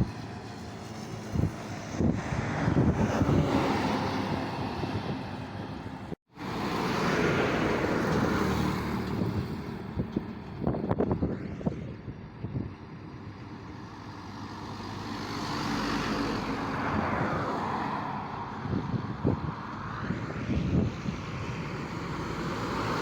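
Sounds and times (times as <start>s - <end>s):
truck and traffic engines rumbling: 0.0s - 23.0s.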